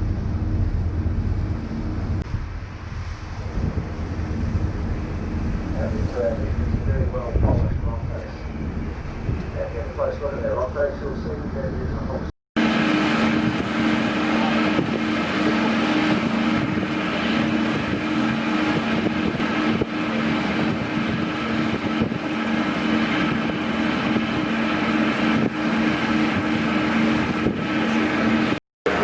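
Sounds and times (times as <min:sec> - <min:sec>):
constant rushing noise: 0:00.0 - 0:29.0
ship engines humming: 0:00.0 - 0:29.0.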